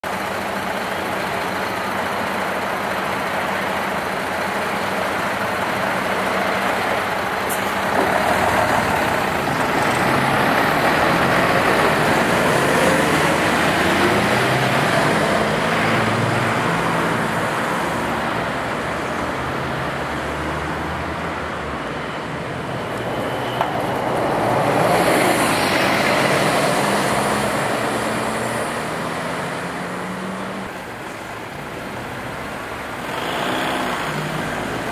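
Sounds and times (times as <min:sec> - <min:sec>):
vehicles passing: 0:00.0 - 0:34.9.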